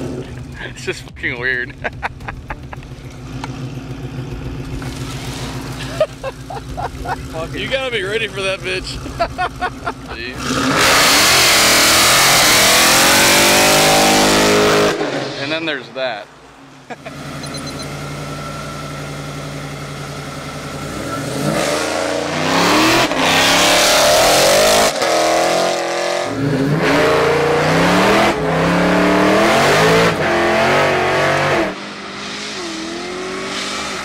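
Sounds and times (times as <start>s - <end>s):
car engine idling and accelerating: 0.0s - 34.0s.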